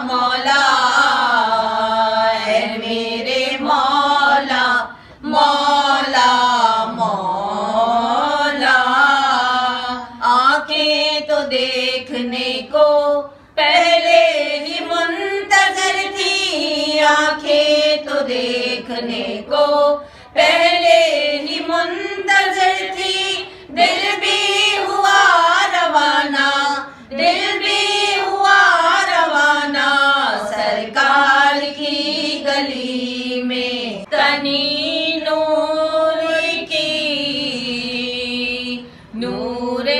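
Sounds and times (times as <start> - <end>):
women singing unaccompanied: 0.0 - 39.9.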